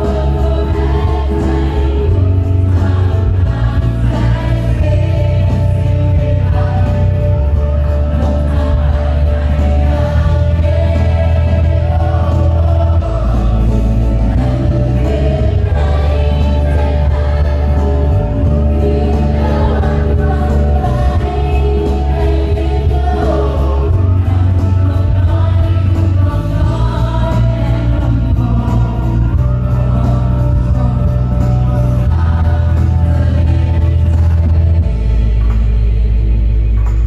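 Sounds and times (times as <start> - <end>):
woman lead singer: 0.0 - 35.0
children's choir singing: 0.0 - 36.8
backing music with deep bass: 0.0 - 37.0.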